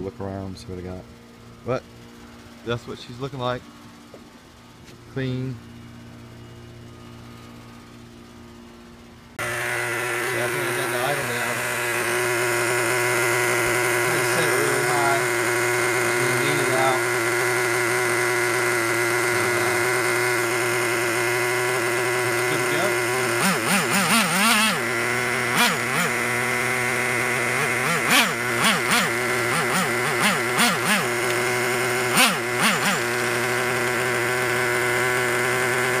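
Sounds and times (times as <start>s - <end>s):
engine throttle blips: 0.0s - 36.0s
small engine idling: 0.0s - 36.0s.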